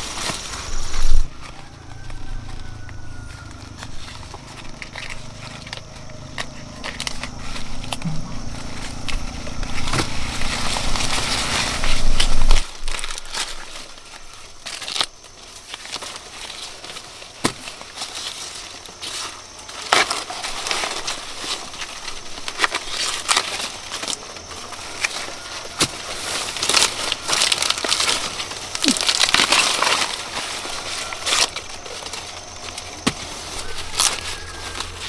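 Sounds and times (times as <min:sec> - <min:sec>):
corn ears snapping: 0:00.0 - 0:35.0
dry corn leaves rustling: 0:00.0 - 0:35.0.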